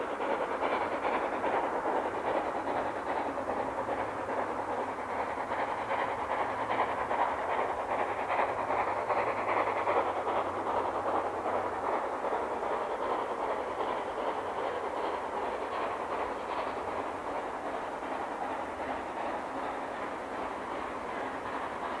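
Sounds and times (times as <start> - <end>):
steam locomotive exhaust: 0.0 - 22.0.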